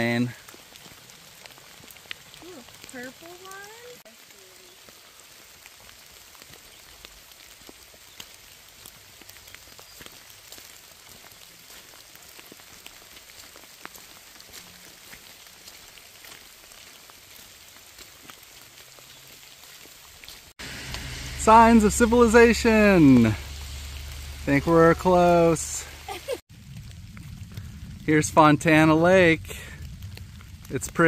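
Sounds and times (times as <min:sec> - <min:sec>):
raindrops ticking: 0:00.0 - 0:31.0
steady rain falling: 0:00.0 - 0:31.0.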